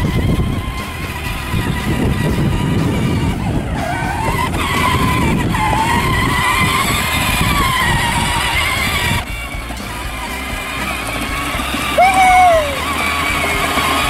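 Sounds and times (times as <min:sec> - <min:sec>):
toy quad motor whine: 0:00.0 - 0:14.0.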